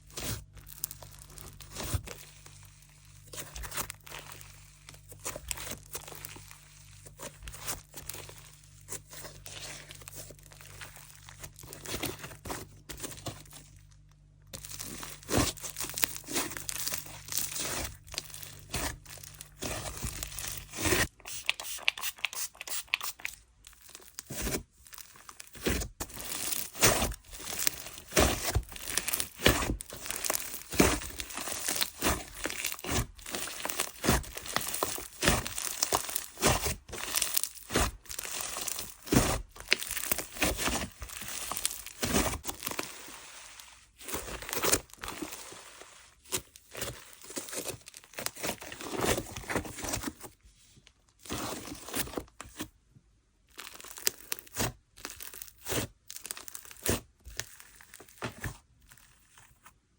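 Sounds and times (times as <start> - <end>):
slime crackling and squishing: 0.0 - 50.4, 53.3 - 59.8.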